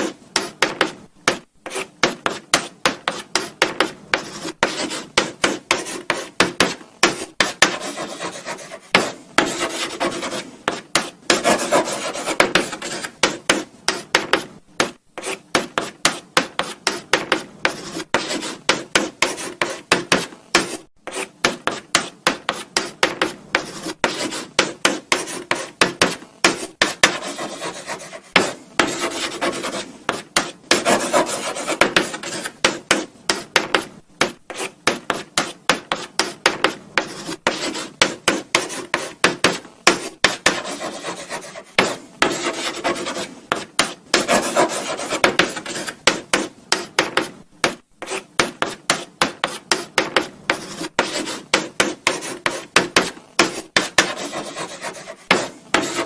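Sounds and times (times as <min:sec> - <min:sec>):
chalk scratching on blackboard: 0:00.0 - 0:56.0.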